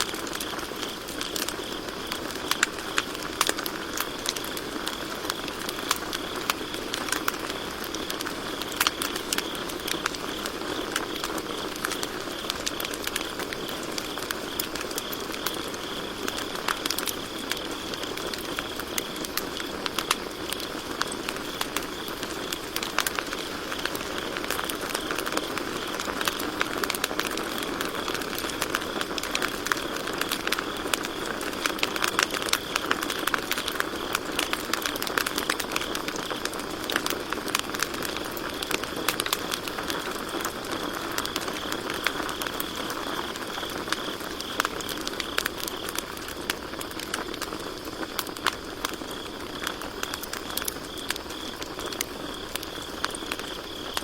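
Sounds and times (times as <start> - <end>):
campfire crackling and popping: 0.0 - 54.0
crickets chirping: 0.0 - 54.0.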